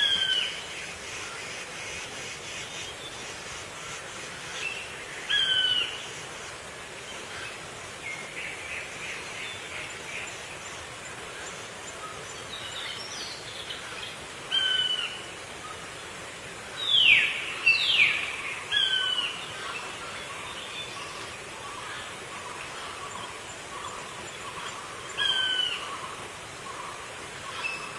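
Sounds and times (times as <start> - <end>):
steady outdoor hiss: 0.0 - 27.9.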